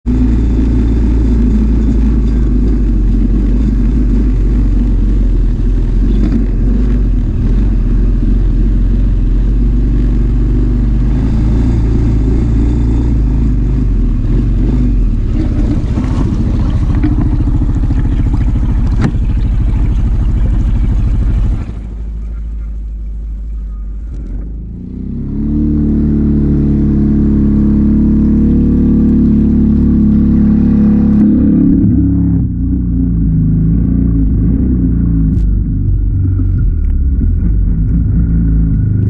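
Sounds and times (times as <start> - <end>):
engine running with low hum: 0.0 - 39.0.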